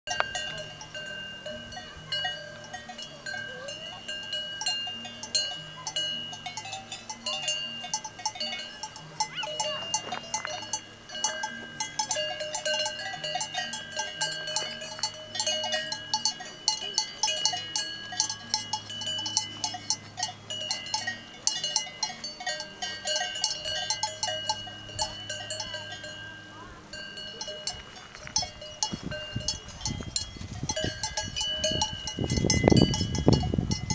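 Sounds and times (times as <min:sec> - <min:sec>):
cowbells clanking: 0:00.1 - 0:33.9.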